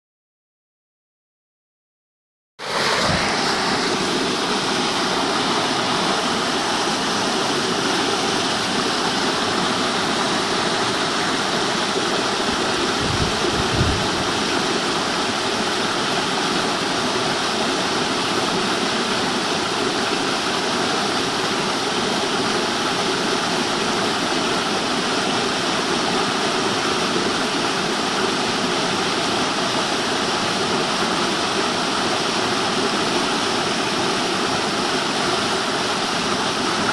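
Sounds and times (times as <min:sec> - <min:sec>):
waterfall rushing: 0:02.6 - 0:36.9.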